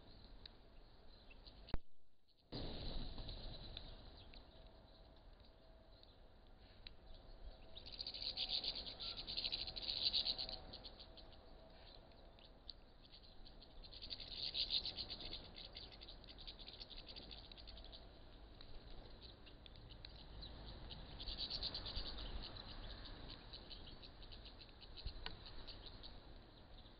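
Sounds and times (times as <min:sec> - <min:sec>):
small birds twittering: 0:00.0 - 0:01.8, 0:02.5 - 0:26.9.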